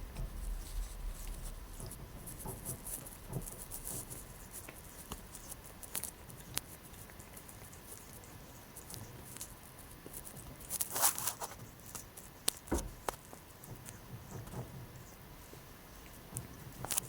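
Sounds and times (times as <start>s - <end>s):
light scratching and rustling: 0.0s - 17.0s.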